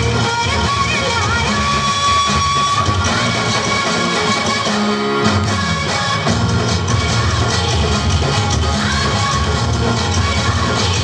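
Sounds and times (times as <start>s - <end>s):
folk dance music with heavy beat: 0.0s - 11.0s.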